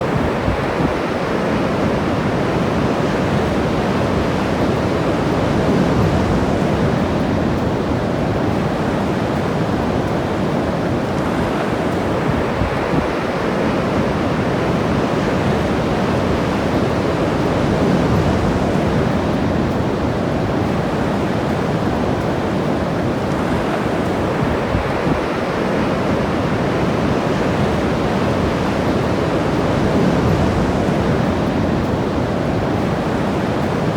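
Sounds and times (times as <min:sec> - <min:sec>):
ocean surf washing on shore: 0:00.0 - 0:33.9
wind on microphone: 0:00.0 - 0:33.9.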